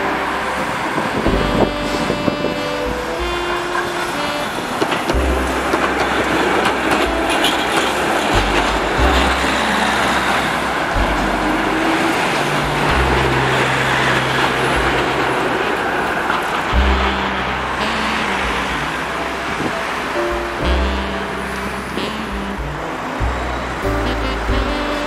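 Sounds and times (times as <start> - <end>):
tram wheels on rails: 0.0 - 24.5
low notes changing pitch: 0.0 - 25.0
road traffic: 0.0 - 25.0.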